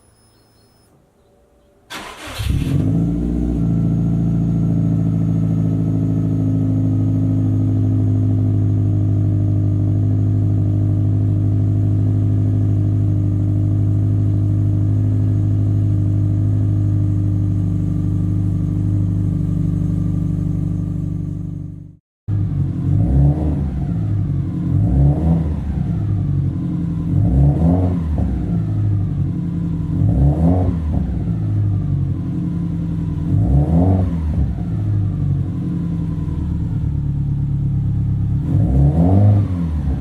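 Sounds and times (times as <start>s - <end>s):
car engine starting and idling: 1.6s - 40.0s.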